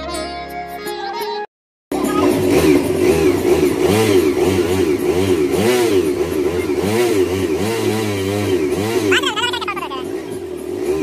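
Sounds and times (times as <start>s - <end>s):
motorcycle engine revving: 1.9s - 11.0s.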